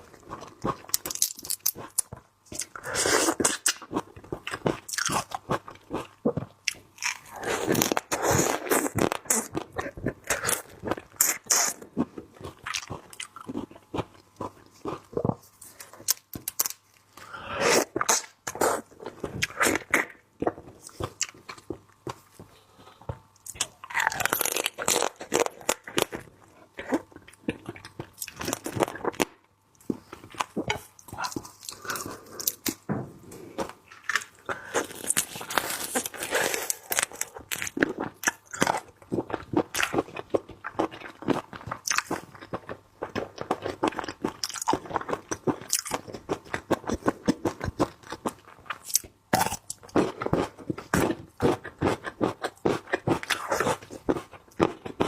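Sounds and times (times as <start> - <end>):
chewing and crunching seafood: 0.0 - 16.8, 18.6 - 32.8, 33.6 - 55.0.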